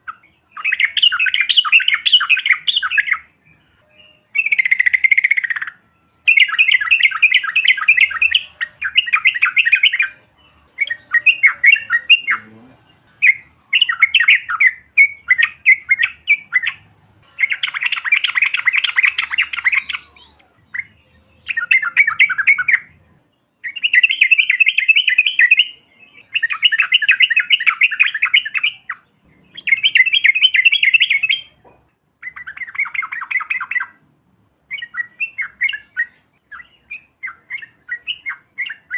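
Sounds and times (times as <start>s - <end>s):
bird chattering song: 0.0s - 34.0s, 34.7s - 38.9s.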